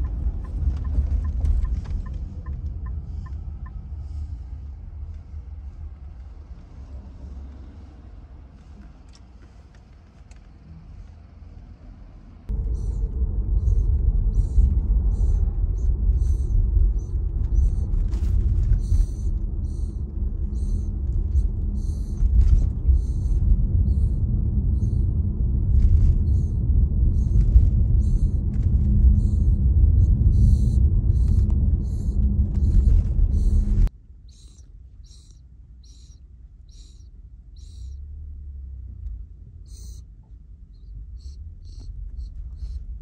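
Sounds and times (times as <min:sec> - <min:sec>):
road noise inside car: 0:00.0 - 0:43.0.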